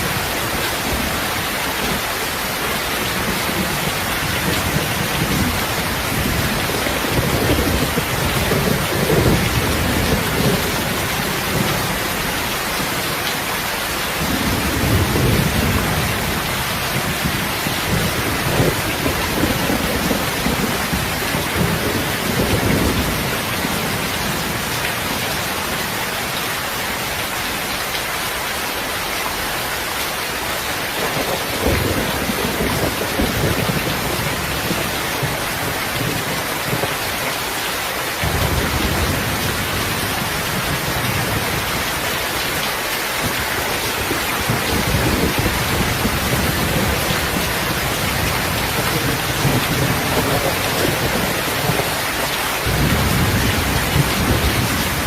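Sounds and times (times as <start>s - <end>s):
thunder rumbling: 0.0s - 13.3s, 14.1s - 26.2s, 30.9s - 37.2s, 38.2s - 55.0s
steady rain hissing: 0.0s - 55.0s.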